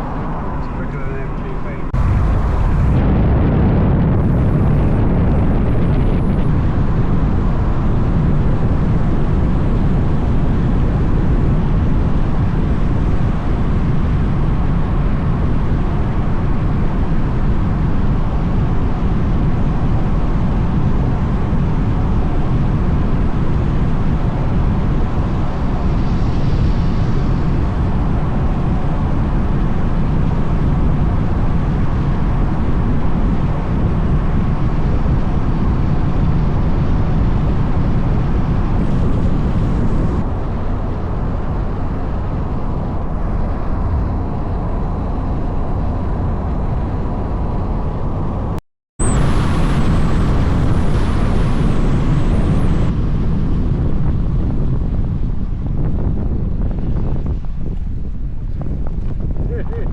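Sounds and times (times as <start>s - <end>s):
car engine driving: 0.0s - 32.1s, 33.1s - 53.7s
tyre and wind noise: 0.0s - 59.9s.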